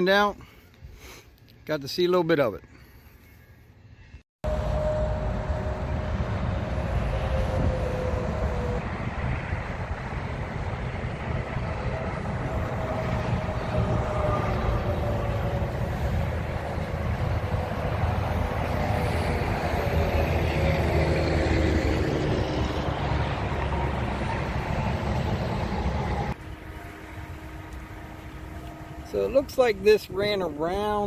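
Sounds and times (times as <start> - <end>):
car driving on road: 4.5 - 31.0.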